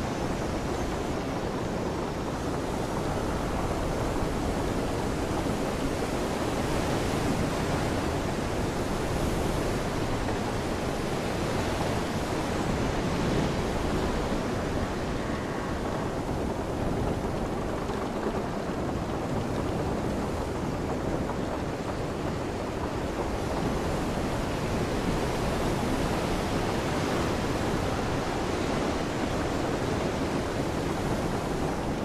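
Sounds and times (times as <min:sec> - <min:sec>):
steady rushing noise: 0:00.0 - 0:32.0.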